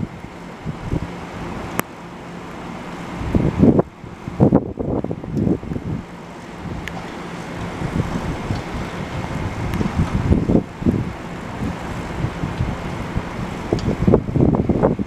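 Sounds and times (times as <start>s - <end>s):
rain hiss: 0.0s - 15.0s
standing train hum: 0.0s - 15.0s
wind buffeting microphone: 0.0s - 15.0s.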